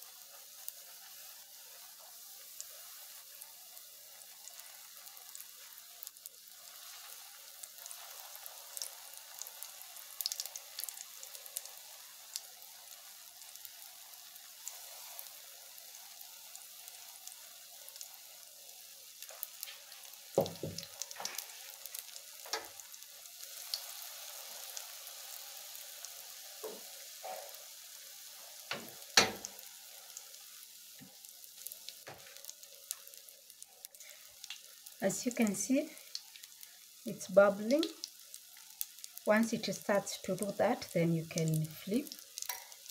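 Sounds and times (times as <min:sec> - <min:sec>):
batter sizzling in oil: 0:00.0 - 0:42.9.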